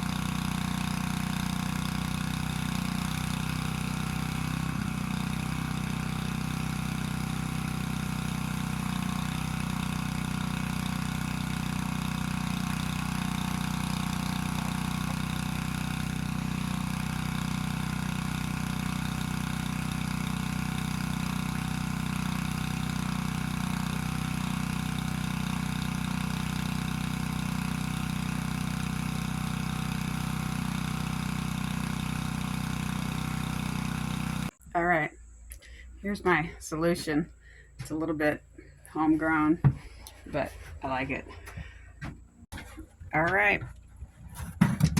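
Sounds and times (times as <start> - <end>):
engine water pump running: 0.0 - 34.6, 37.3 - 44.9.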